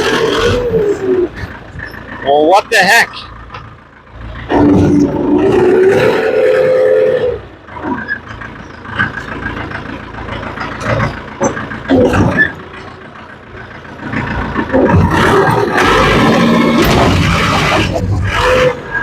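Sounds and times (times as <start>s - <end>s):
vehicle engine revving: 0.0s - 2.4s, 3.5s - 19.0s
machinery clanks and squeaks: 0.0s - 5.7s, 7.6s - 19.0s.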